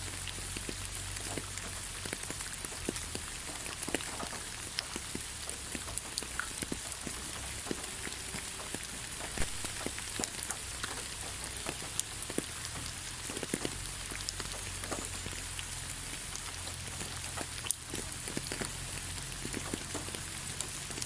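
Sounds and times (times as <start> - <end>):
rain hissing: 0.0 - 21.0
raindrops ticking: 0.0 - 21.0.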